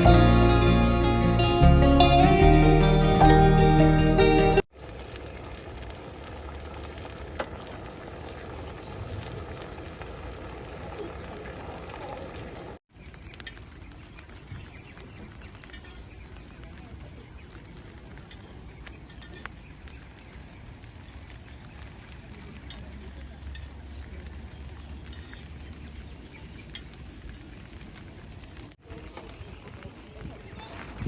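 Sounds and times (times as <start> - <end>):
rain patter: 0.0 - 2.2, 4.6 - 31.0
sharp raindrop ticks: 4.7 - 31.0.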